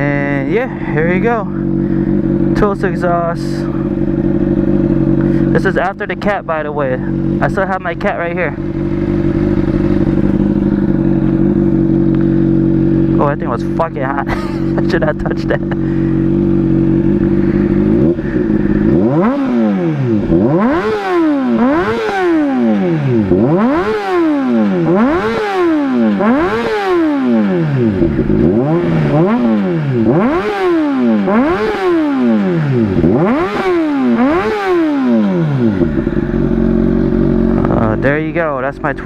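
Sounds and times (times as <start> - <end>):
motorcycle engine idling: 0.0 - 39.0
motorcycle engine revving: 0.0 - 39.0.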